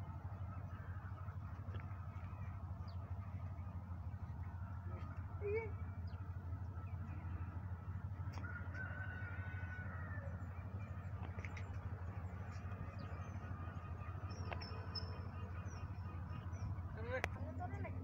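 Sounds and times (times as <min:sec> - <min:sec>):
steady low rumble: 0:00.0 - 0:18.0
faint bird calls: 0:00.3 - 0:18.0.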